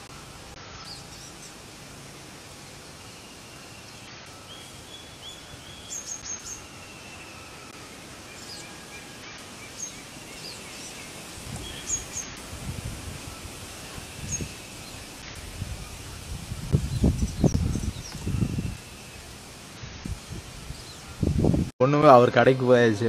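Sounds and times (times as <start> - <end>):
birds chirping and whistling: 0.0 - 1.7, 2.7 - 21.7
outdoor hiss: 0.0 - 23.0.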